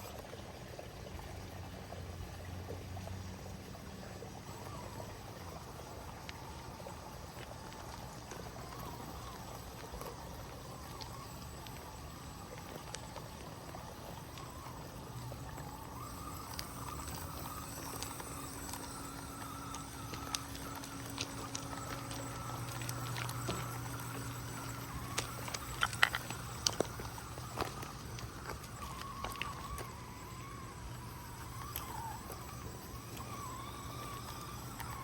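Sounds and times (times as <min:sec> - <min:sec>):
small electric motor whine: 0:00.0 - 0:35.0.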